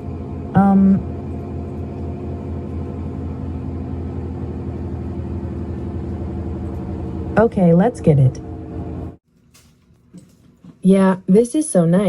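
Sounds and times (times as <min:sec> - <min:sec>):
machine hum with constant tones: 0:00.0 - 0:12.0.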